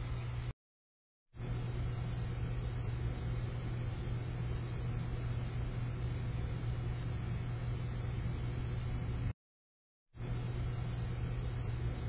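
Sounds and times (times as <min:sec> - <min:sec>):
low hum: 0:01.4 - 0:09.3, 0:10.2 - 0:12.0.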